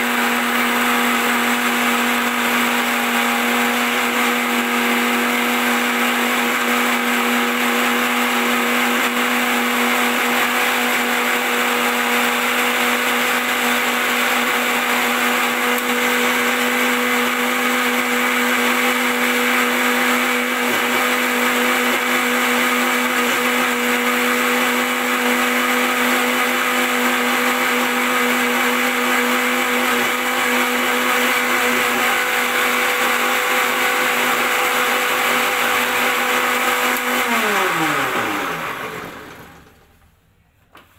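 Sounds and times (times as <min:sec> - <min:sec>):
mixer grinder motor whining: 0:00.0 - 0:40.1.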